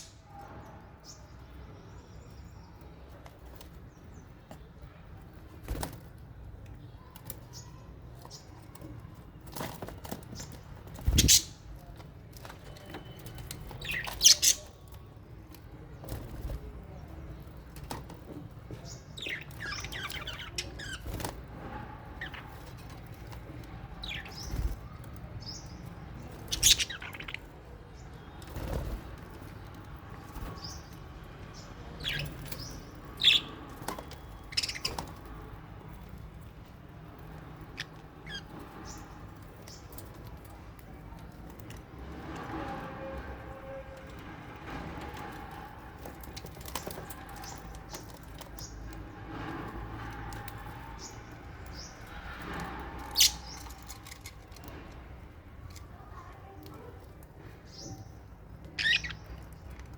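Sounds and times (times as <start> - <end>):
birds chirping and squawking: 0.0 - 56.0, 57.5 - 59.9.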